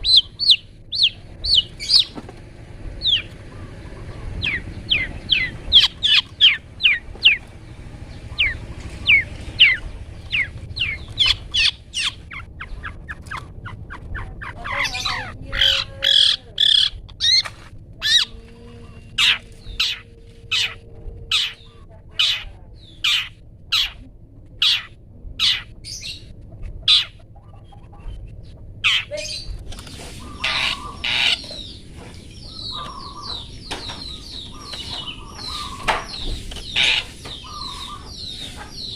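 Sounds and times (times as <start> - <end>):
bird chattering: 0.0 - 2.2, 3.0 - 38.9
songbird calling in sharp notes: 0.0 - 2.2, 3.0 - 24.0, 30.2 - 38.9.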